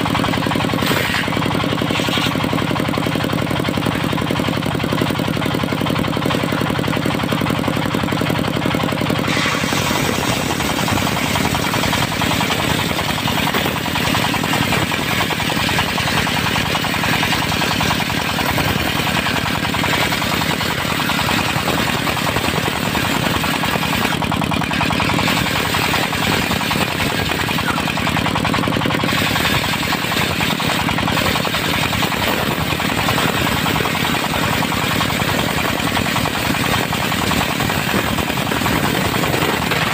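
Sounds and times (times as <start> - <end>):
circular saw cutting wood: 0.0 - 4.4, 7.9 - 39.9
diesel engine knocking: 0.0 - 39.9.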